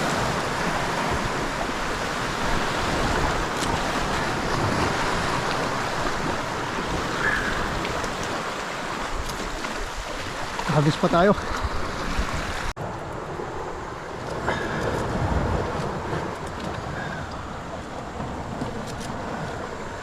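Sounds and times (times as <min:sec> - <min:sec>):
sea water washing: 0:00.0 - 0:20.0
wind buffeting microphone: 0:00.0 - 0:20.0.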